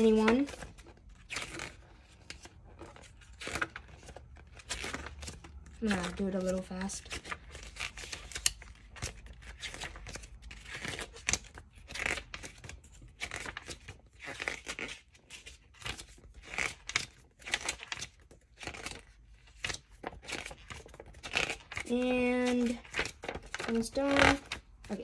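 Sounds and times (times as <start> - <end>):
paper pages flipping: 0.0 - 25.0.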